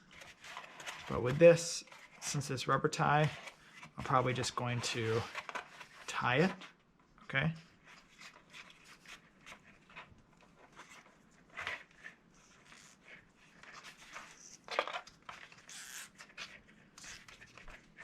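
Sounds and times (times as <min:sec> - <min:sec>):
cardboard rustling and scraping: 0:00.0 - 0:06.7, 0:07.8 - 0:18.0.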